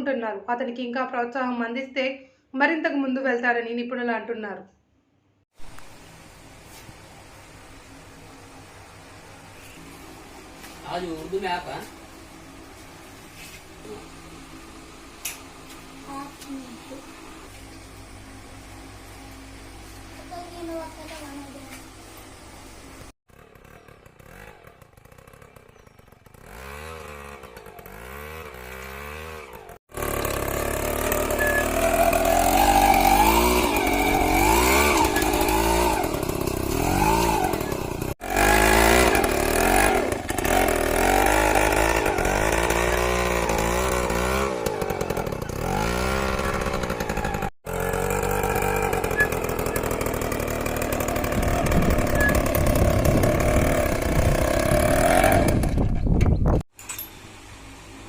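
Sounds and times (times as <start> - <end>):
two-stroke engine running: 7.6 - 56.6.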